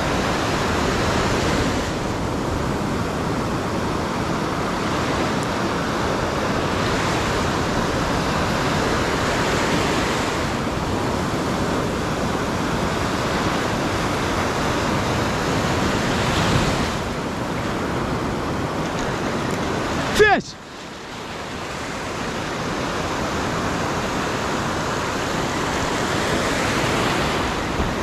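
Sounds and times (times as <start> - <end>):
wind buffeting microphone: 0.0 - 20.0, 21.1 - 28.0
surf rushing: 0.0 - 28.0.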